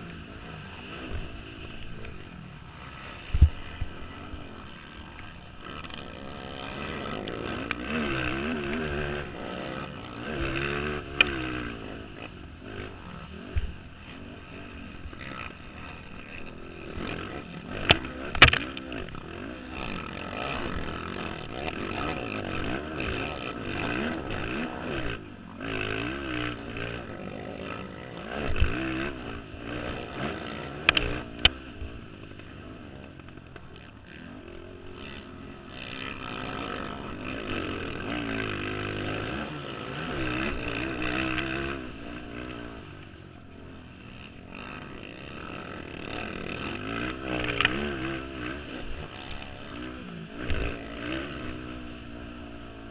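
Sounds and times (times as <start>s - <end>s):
quad engines revving and passing: 0.0s - 52.9s.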